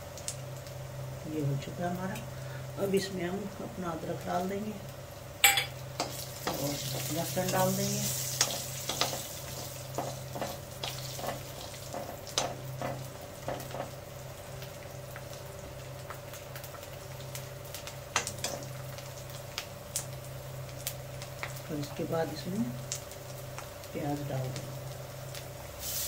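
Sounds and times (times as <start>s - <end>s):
garlic sizzling in hot oil: 0.0s - 26.0s.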